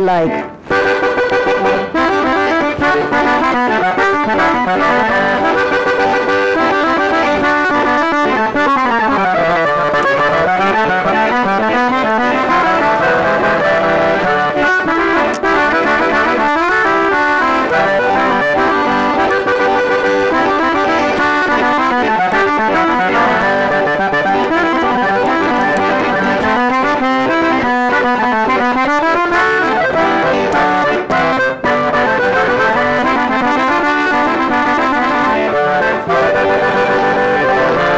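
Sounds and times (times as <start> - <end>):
button accordion playing: 0.0 - 37.9.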